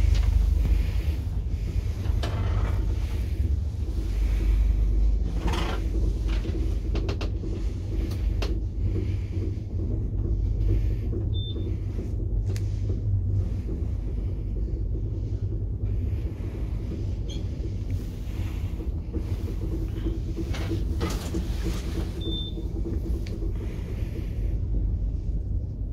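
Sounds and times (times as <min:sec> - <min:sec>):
elevator low rumble: 0:00.0 - 0:25.9.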